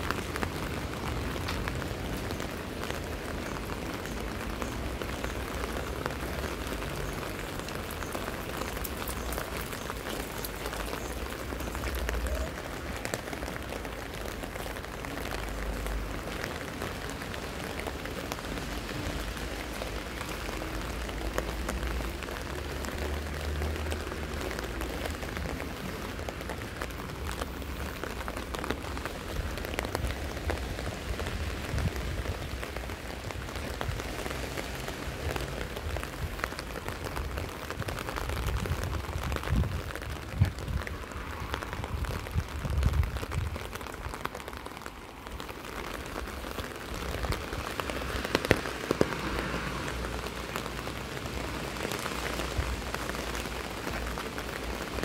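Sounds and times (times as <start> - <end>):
rain falling on paving: 0.0 - 55.0.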